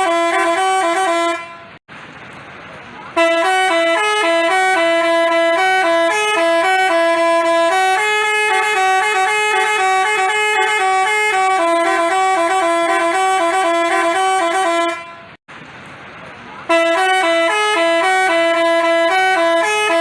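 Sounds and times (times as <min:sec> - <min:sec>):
multi-tone bus horn tune: 0:00.0 - 0:01.8, 0:03.1 - 0:15.4, 0:16.6 - 0:20.0.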